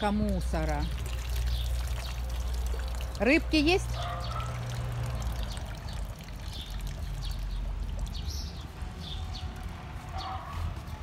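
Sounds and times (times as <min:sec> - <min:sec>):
water pouring into pond: 0:00.0 - 0:10.1.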